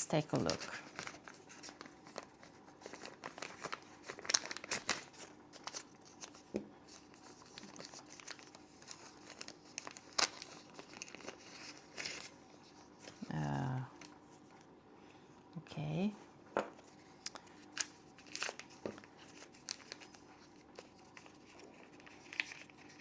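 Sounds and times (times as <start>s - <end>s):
packaging crinkling and rustling: 0.1s - 14.7s, 16.7s - 23.0s.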